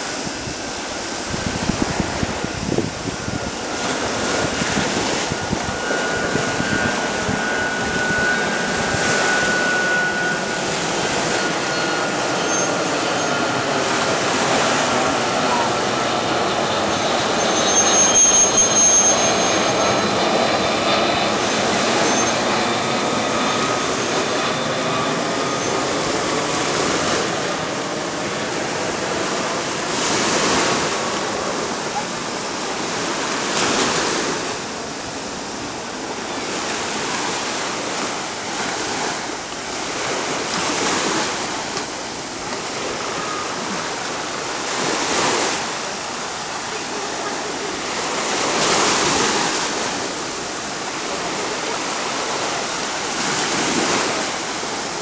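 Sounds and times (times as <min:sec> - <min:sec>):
jet airliner passing overhead: 0:00.0 - 0:55.0
sea waves breaking on shore: 0:00.0 - 0:55.0.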